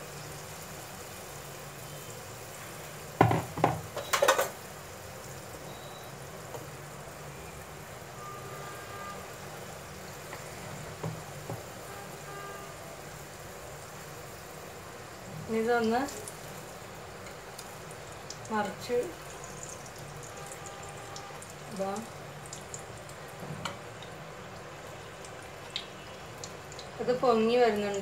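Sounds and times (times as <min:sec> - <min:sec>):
batter deep-frying in oil: 0:00.0 - 0:28.0.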